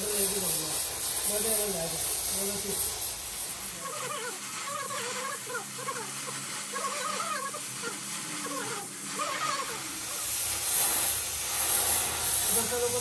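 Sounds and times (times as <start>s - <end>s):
welding torch flame hissing: 0.0s - 13.0s.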